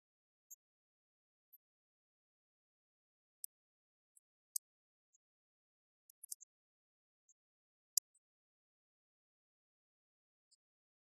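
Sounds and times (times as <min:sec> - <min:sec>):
faint high-pitched ticks: 0:00.0 - 0:11.0.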